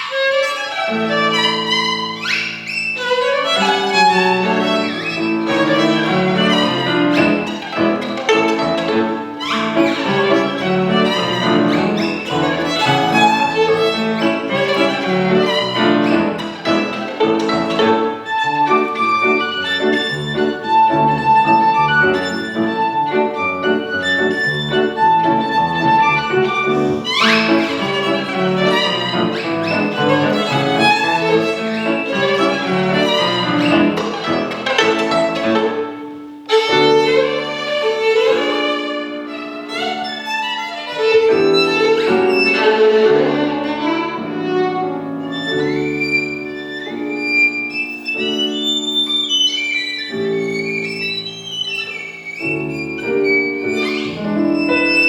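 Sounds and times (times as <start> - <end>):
fast violin runs: 0.0 - 55.0
piano chords: 0.0 - 55.0.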